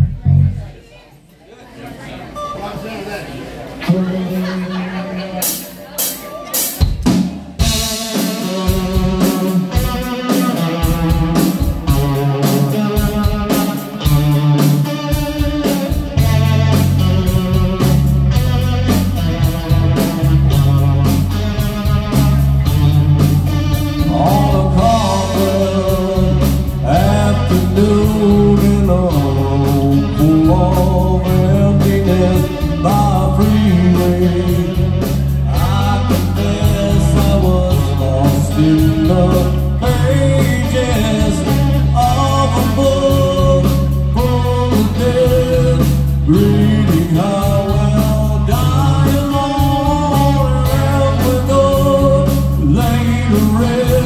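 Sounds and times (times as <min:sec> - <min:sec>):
heavy bass line: 0:00.0 - 0:00.8, 0:07.0 - 0:54.0
man singing: 0:03.8 - 0:05.6, 0:07.6 - 0:54.0
drum kit: 0:05.3 - 0:54.0
electric guitars: 0:05.4 - 0:54.0.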